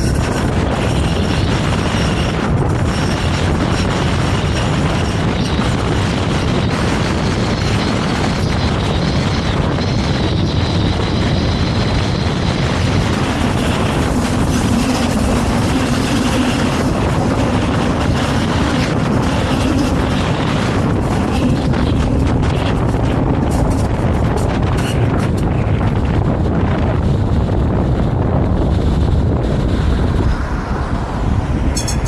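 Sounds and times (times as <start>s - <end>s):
tram wheels rumbling on rails: 0.0s - 32.0s.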